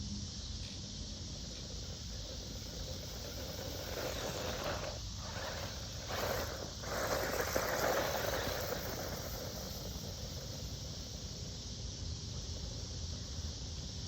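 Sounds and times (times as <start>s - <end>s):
rc car tyres and motor: 0.2s - 14.0s.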